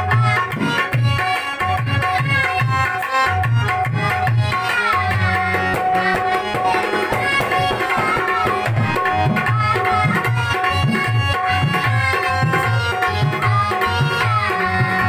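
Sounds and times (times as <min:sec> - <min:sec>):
boy singing: 0:00.0 - 0:15.0
dholak drum beat: 0:00.0 - 0:15.0
harmonium held notes: 0:00.0 - 0:15.0.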